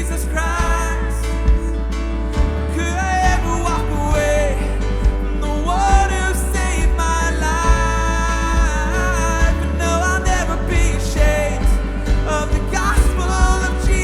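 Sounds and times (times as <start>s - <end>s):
kick drum hits: 0.0s - 14.0s
sliding lead melody: 0.0s - 14.0s.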